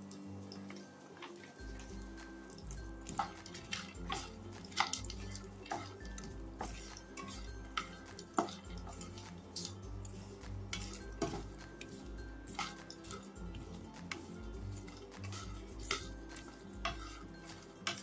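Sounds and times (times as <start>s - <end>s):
soft background music: 0.0s - 18.0s
spatula stirring nuts in pan: 0.0s - 18.0s.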